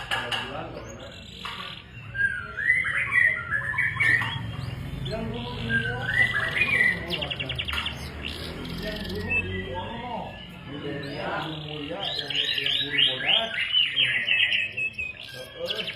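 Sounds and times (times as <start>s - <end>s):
canary singing: 0.0s - 15.9s.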